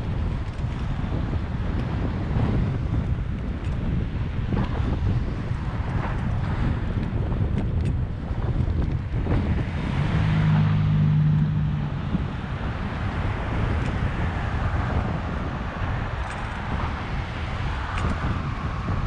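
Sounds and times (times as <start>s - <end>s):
car traffic noise: 0.0s - 19.0s
wind buffeting microphone: 0.0s - 19.0s.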